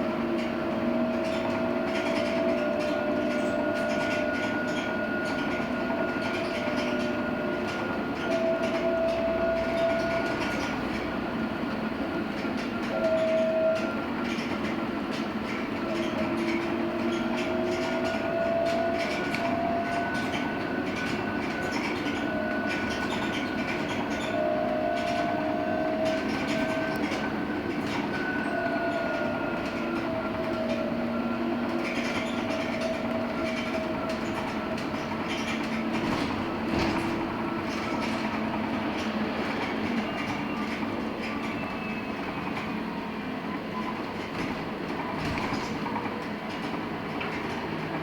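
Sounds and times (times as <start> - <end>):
road and rolling noise: 0.0 - 48.0.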